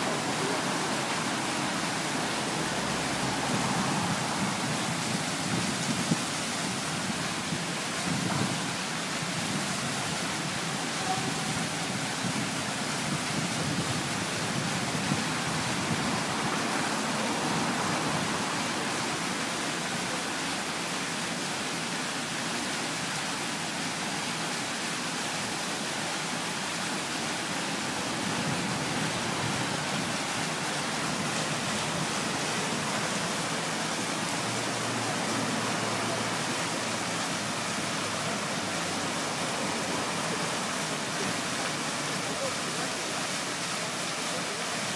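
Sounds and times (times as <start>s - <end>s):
fountain water splashing: 0.0s - 44.9s.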